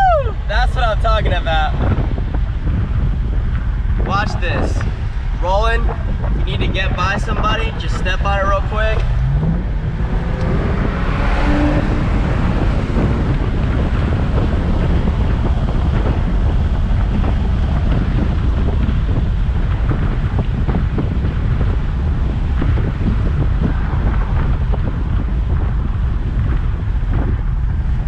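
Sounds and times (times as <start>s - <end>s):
car engine at full throttle: 0.0s - 28.0s
wind and road noise: 0.0s - 28.0s.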